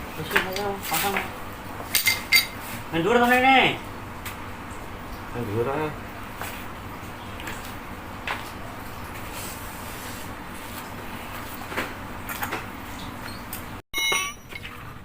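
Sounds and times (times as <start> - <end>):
workshop background noise: 0.0 - 15.0.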